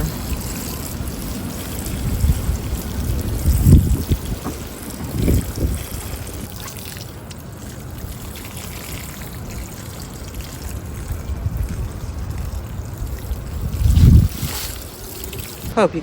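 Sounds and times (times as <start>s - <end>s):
water pouring onto soil: 0.0s - 15.7s.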